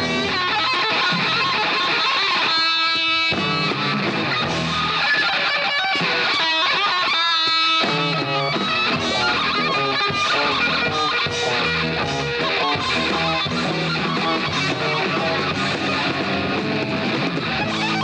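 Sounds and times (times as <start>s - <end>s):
electric guitar solo: 0.0s - 18.0s.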